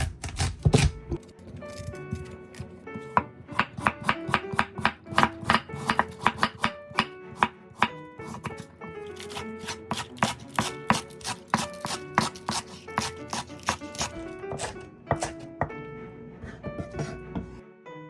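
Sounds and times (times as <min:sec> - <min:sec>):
knife chopping on cutting board: 0:00.0 - 0:08.6, 0:09.2 - 0:15.7, 0:16.4 - 0:17.6
plucked-string background music: 0:00.0 - 0:18.0.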